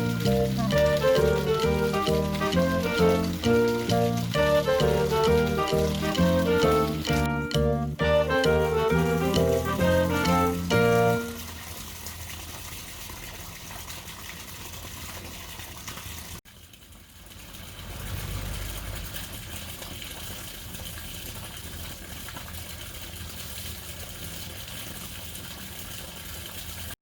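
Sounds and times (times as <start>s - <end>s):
water splashing into pond: 0.0s - 27.0s.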